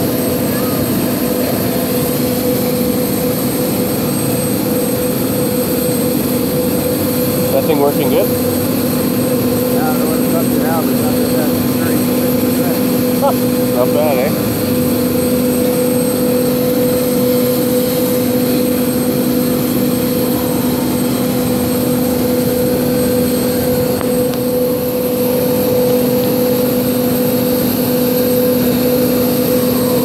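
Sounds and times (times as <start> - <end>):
helicopter rotor turning: 0.0 - 30.0
helicopter turbine whine: 0.0 - 30.0.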